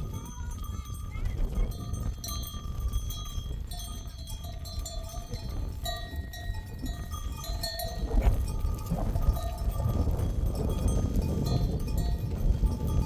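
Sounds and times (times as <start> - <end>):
sheep bells clanking: 0.0 - 13.0.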